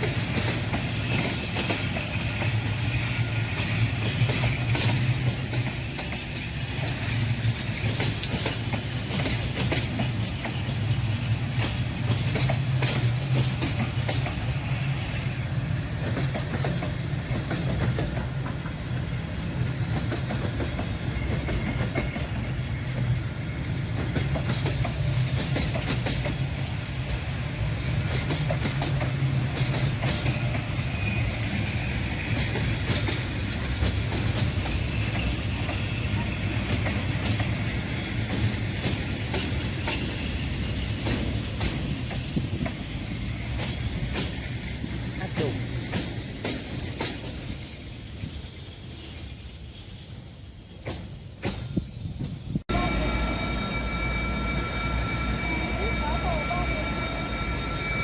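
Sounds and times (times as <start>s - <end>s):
wheels clicking over rail joints: 0.0s - 14.6s, 15.9s - 31.4s, 32.1s - 49.1s
train rumbling by: 0.0s - 58.0s.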